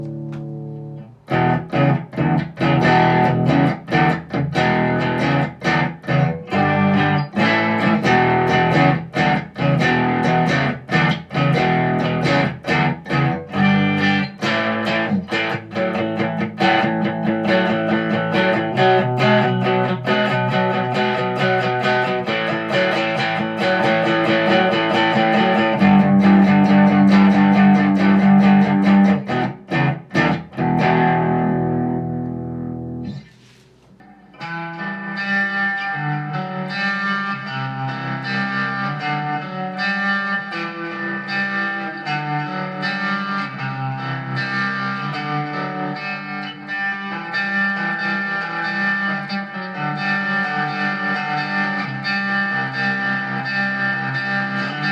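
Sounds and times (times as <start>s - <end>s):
electric guitar picking notes and chords: 0.0s - 33.3s, 34.0s - 54.9s.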